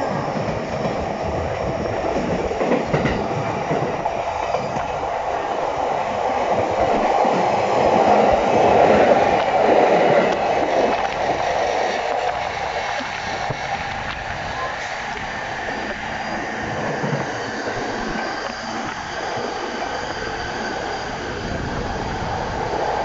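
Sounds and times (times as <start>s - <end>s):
electric train running by: 0.0s - 23.0s.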